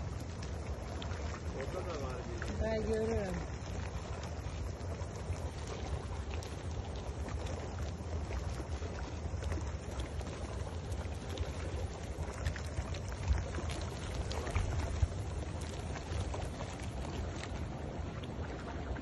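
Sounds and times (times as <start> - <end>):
water rushing: 0.0 - 19.0
wind rumbling on microphone: 0.0 - 19.0.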